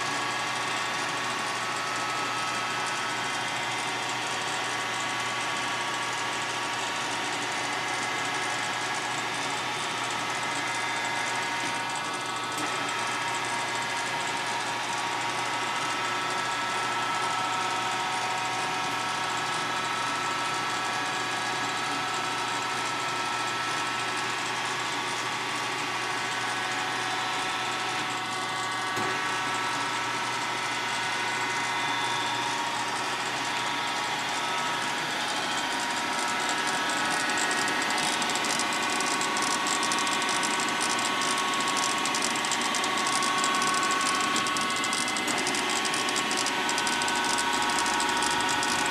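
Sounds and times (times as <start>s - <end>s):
grinder machine whine: 0.0s - 48.9s.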